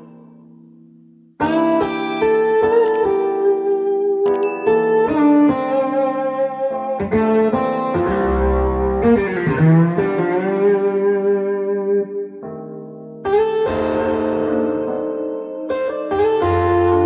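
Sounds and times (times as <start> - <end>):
guitar music with effects: 0.0 - 17.0.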